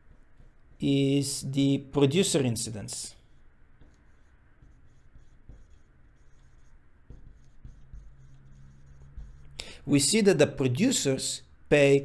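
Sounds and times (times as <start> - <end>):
marker writing on whiteboard: 0.0 - 10.8.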